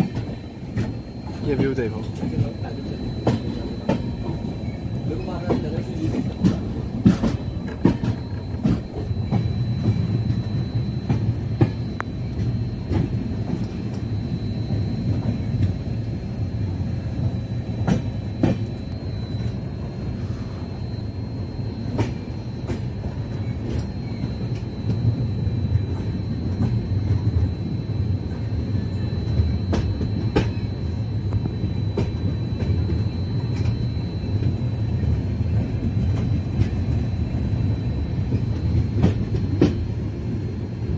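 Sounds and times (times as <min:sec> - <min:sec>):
faint high steady tone: 0:00.0 - 0:40.8
train wheels rumbling on rail: 0:00.0 - 0:40.9.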